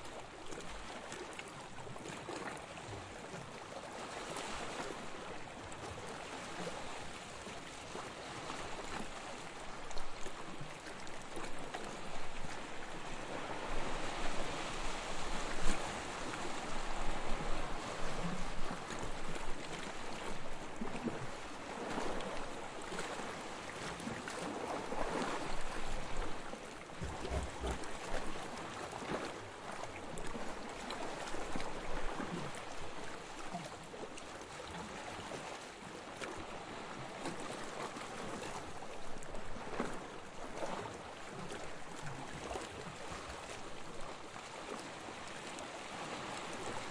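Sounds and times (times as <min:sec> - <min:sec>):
gentle waves washing onto beach: 0:00.0 - 0:46.9.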